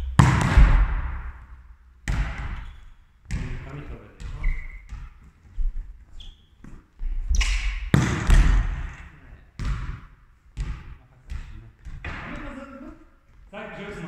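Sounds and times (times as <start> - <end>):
volleyball bouncing on gym floor: 0.0 - 5.8, 6.6 - 12.6.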